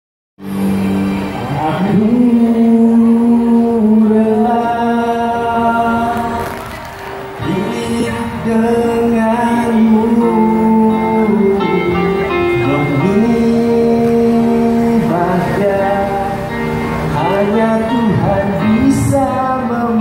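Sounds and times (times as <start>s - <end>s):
backing music: 0.4s - 20.0s
man singing into microphone: 1.4s - 20.0s.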